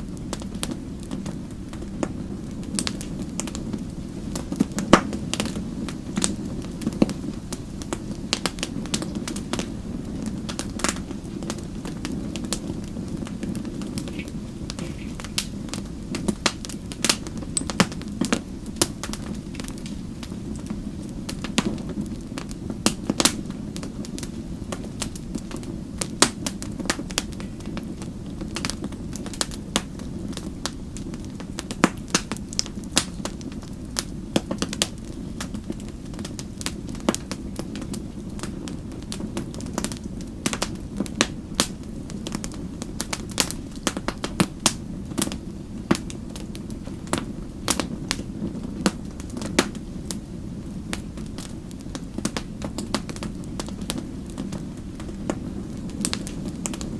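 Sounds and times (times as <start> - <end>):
low rumble of flame: 0.0 - 56.9
wood fire crackling: 0.0 - 56.9.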